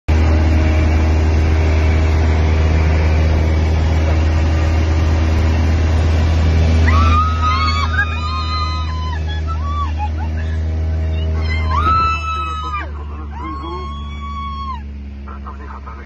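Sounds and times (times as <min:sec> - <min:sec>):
aircraft engine and propeller droning: 0:00.1 - 0:16.0.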